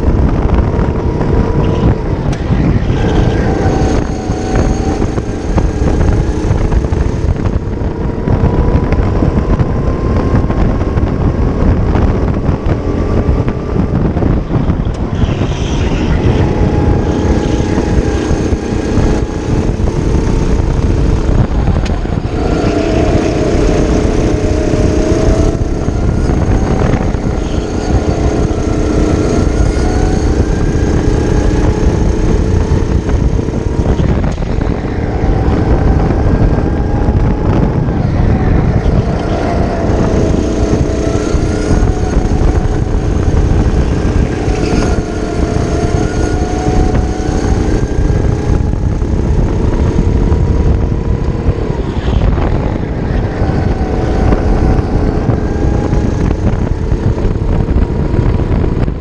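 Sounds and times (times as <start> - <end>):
kart engine running hard: 0.0 - 59.0
second kart engine: 0.0 - 59.0
wind rush on microphone: 0.0 - 59.0.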